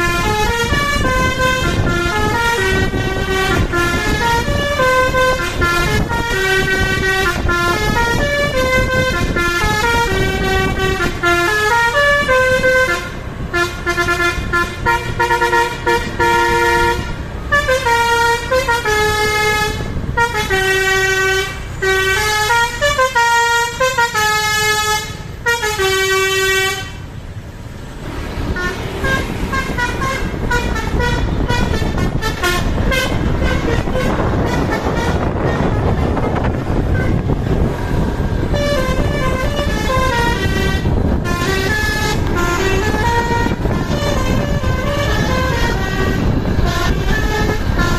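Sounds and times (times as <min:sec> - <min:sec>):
multi-tone bus horn melody: 0:00.0 - 0:27.2, 0:28.1 - 0:47.9
engine rumbling: 0:00.0 - 0:47.9
traffic noise: 0:00.0 - 0:47.9.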